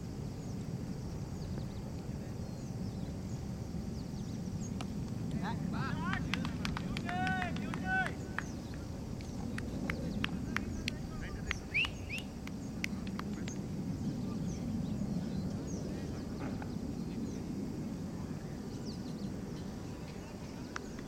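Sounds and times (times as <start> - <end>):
birds chirping: 0.4 - 17.6, 18.2 - 21.0.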